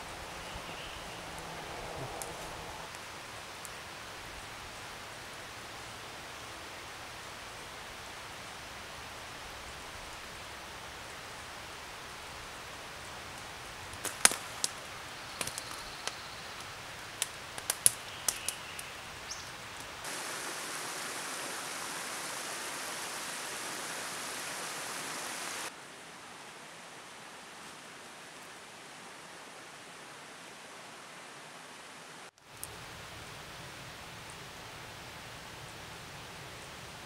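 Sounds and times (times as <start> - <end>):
rushing outdoor noise: 0.0 - 37.0.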